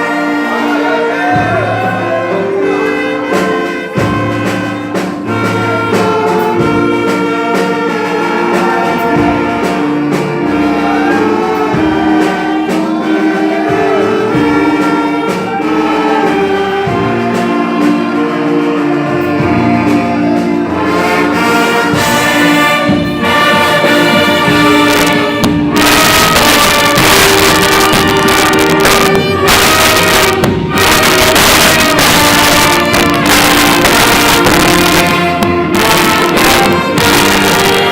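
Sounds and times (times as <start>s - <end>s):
brass-led orchestra playing: 0.0s - 37.9s.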